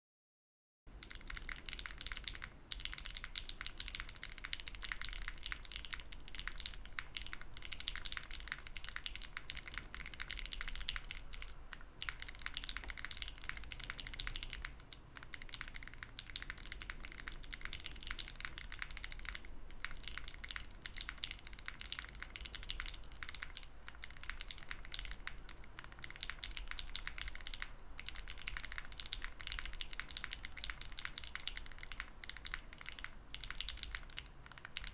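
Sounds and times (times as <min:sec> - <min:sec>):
fast typing on mechanical keyboard: 0:00.9 - 0:34.9.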